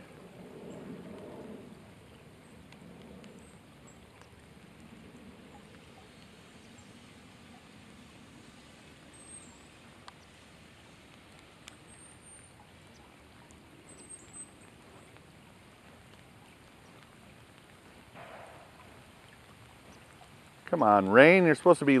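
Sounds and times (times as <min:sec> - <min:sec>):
rain falling on water: 0:00.0 - 0:22.0.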